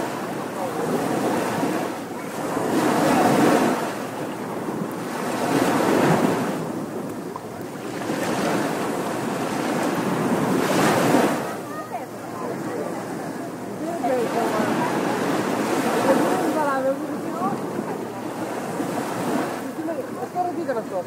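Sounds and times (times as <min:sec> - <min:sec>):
small waves washing on sand: 0:00.0 - 0:21.0.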